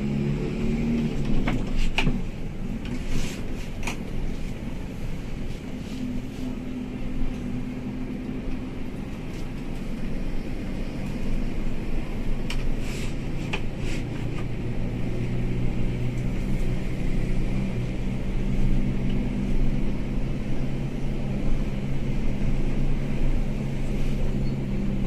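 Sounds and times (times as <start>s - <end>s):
bus engine hum: 0.0s - 25.0s
road rumble: 0.0s - 25.0s.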